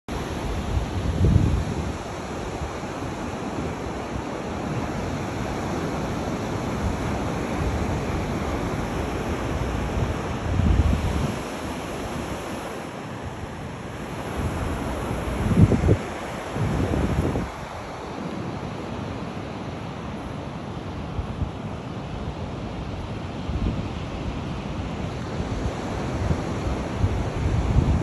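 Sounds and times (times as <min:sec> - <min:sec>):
surf washing: 0:00.1 - 0:28.0
wind buffeting microphone: 0:00.3 - 0:18.8, 0:22.7 - 0:28.0.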